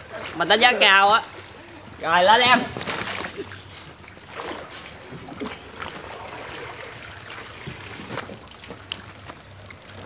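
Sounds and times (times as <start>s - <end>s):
pool water sloshing: 0.0s - 10.0s.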